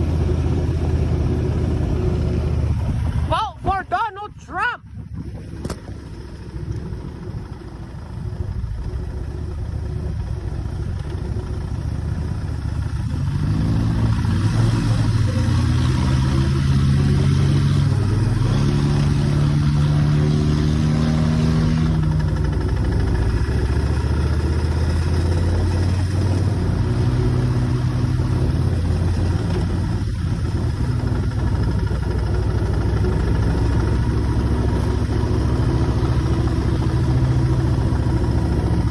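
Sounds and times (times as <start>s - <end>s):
motorcycle engine accelerating: 0.0s - 3.8s, 4.8s - 38.9s.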